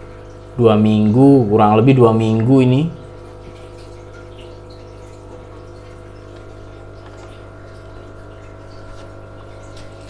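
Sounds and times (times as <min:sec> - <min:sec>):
aquarium pump humming: 0:00.0 - 0:10.0
water bubbling and trickling: 0:00.0 - 0:10.0.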